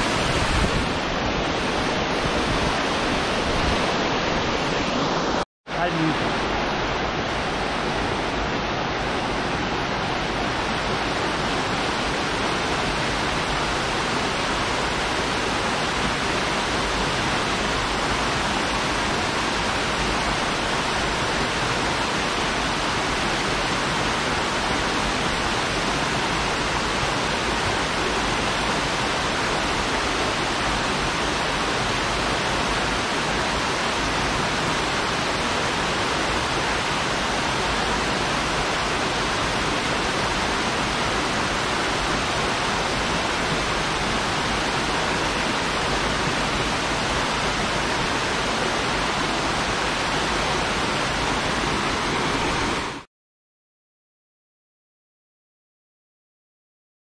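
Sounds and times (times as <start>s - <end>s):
waterfall rushing: 0.0s - 53.1s.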